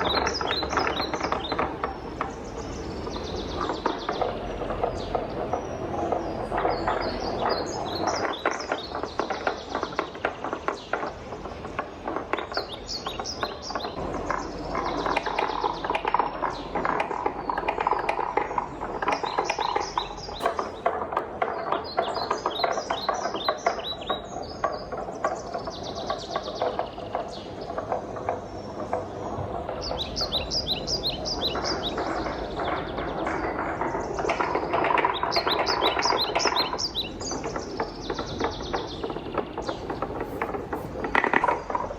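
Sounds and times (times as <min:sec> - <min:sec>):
wooden balls clacking on marble run: 0:00.0 - 0:41.9.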